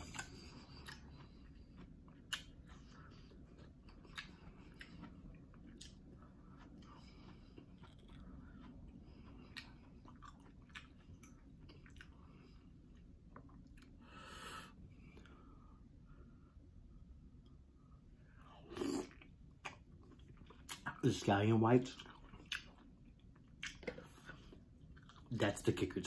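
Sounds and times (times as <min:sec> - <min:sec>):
chewing mussels: 0:00.0 - 0:14.1, 0:18.6 - 0:26.0.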